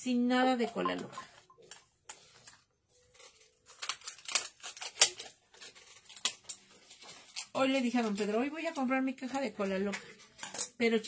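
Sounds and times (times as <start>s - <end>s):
blister pack crackling and clicking: 1.3s - 10.6s.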